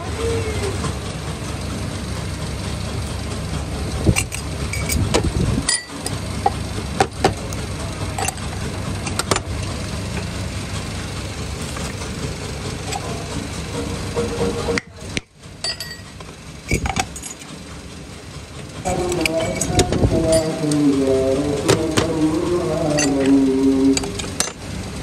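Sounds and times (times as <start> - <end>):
workshop machinery drone: 0.0 - 25.0.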